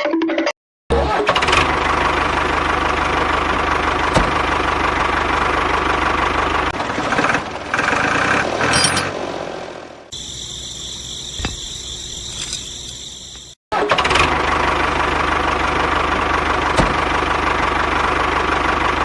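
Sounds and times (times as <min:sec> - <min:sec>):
tractor engine running: 0:00.9 - 0:19.0.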